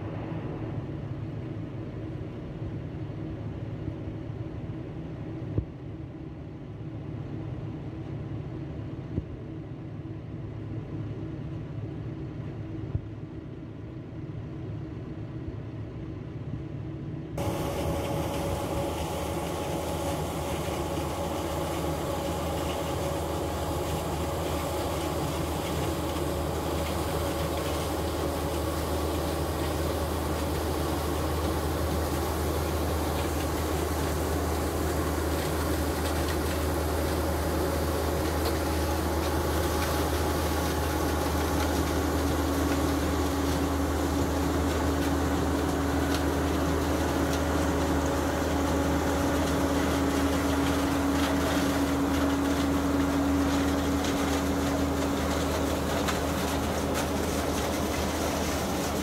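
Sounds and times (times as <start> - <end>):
combine harvester engine and threshing: 0.0 - 59.0
steady hum: 0.0 - 59.0.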